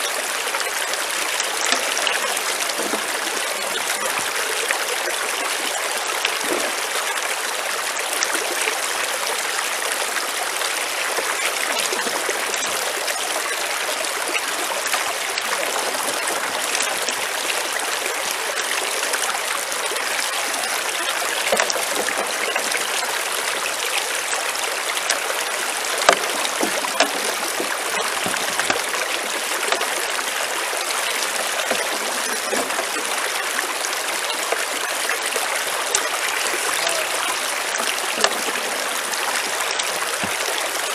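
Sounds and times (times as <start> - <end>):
water rushing over stones: 0.0 - 40.9
water splashes: 0.0 - 40.9.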